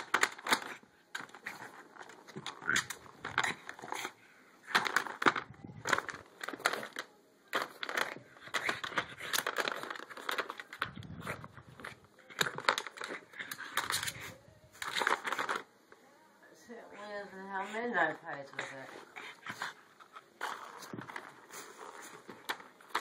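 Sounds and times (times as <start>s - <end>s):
plastic toy clattering and rattling: 0.0s - 4.1s, 4.7s - 15.7s, 18.1s - 23.0s.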